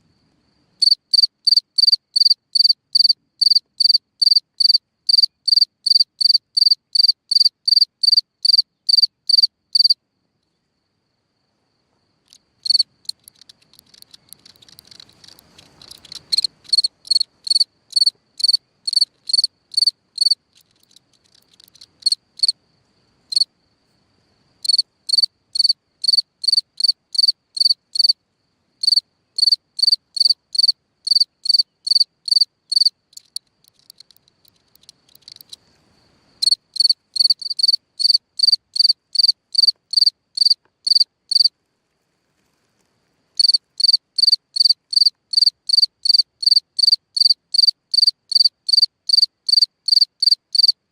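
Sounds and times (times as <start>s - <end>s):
cricket chirping: 0.0s - 50.9s.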